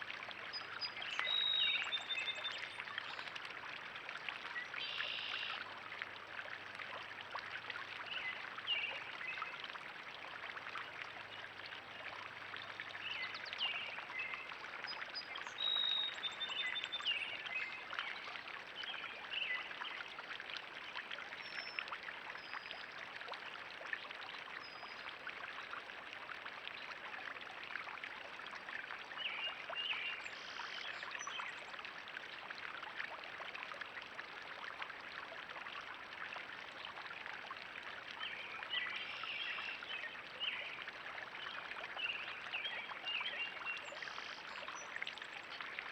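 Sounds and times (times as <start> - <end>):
water trickling and splashing: 0.0 - 45.9.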